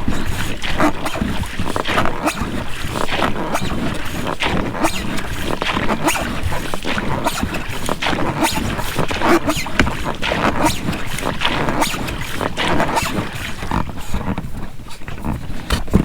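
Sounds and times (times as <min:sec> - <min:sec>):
oar blades splashing water: 0:00.0 - 0:16.0
oars in rubber rowlocks: 0:00.0 - 0:16.0.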